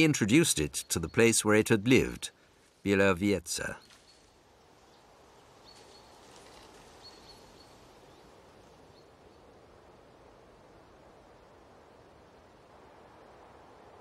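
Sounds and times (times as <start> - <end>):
low steady hiss: 0.0 - 14.0.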